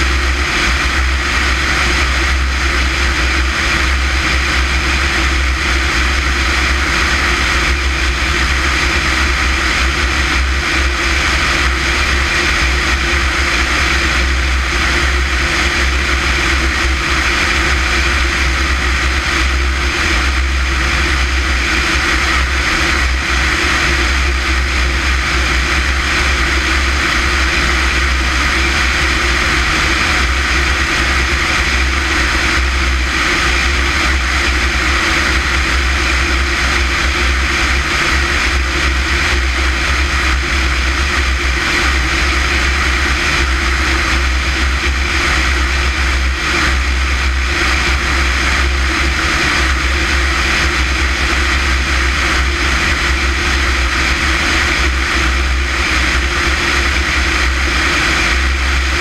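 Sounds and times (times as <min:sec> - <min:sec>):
aircraft engine and propeller drone: 0:00.0 - 0:59.0
loud wind rush: 0:00.0 - 0:59.0
low rumble: 0:00.0 - 0:59.0.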